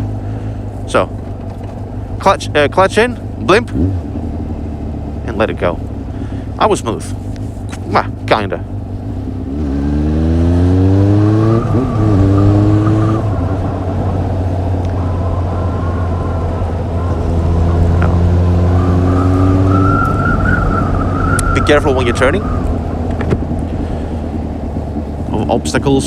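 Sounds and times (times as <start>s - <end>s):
road and wind noise: 0.0s - 26.0s
motorcycle engine accelerating: 1.2s - 7.0s, 7.6s - 26.0s.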